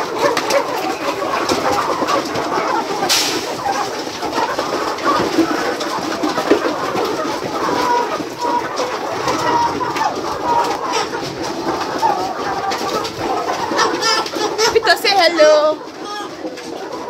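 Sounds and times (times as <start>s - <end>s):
flock of chickens calling: 0.0s - 17.0s.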